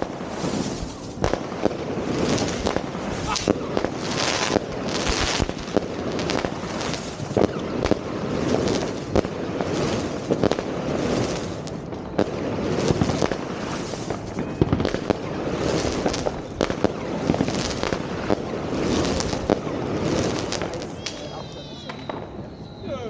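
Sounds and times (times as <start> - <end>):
fireworks crackling and banging: 0.0 - 22.9.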